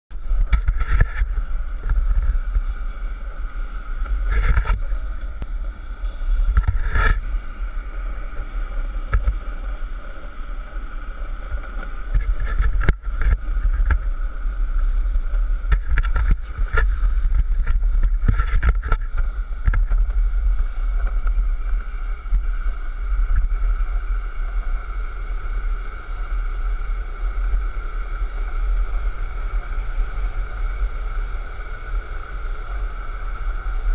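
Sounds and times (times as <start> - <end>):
longboard wheels rolling on asphalt: 0.1 - 33.9
steady high hum: 0.1 - 33.9
wind buffeting microphone: 0.1 - 33.9.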